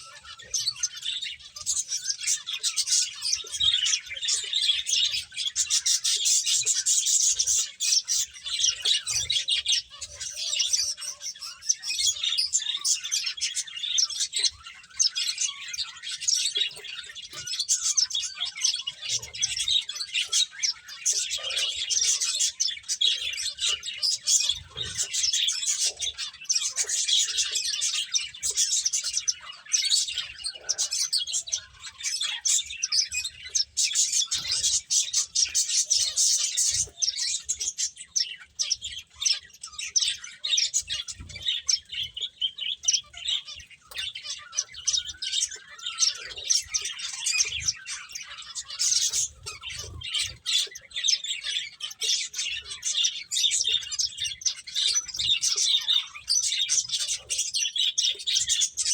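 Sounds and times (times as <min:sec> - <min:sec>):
finches chirping: 0:00.0 - 0:58.9.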